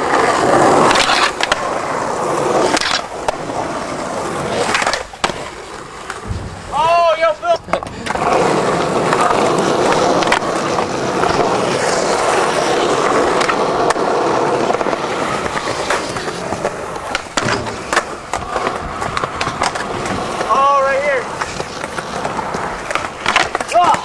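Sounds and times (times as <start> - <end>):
skateboard clacks: 0.0 - 24.0
skateboard wheels rolling on pavement: 0.0 - 24.0.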